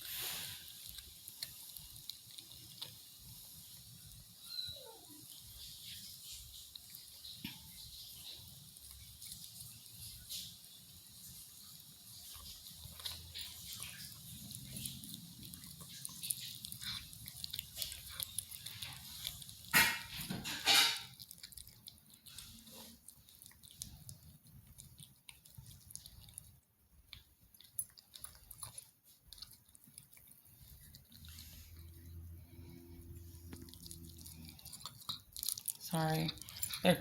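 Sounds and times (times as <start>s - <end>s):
cat chewing meat: 0.0s - 37.0s.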